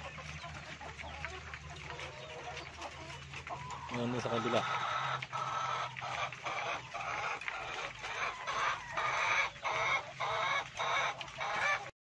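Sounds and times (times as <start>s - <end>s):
hens clucking: 0.0s - 11.9s.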